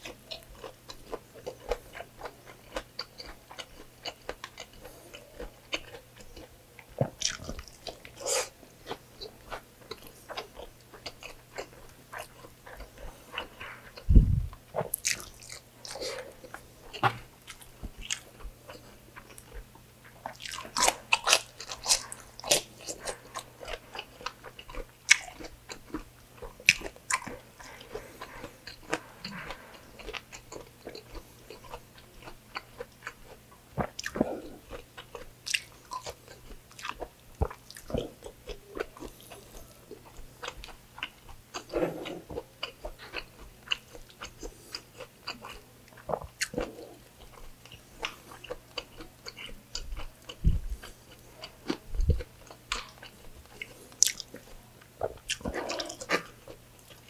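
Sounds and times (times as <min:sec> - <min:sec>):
close chewing and mouth sounds: 0:00.0 - 0:57.0.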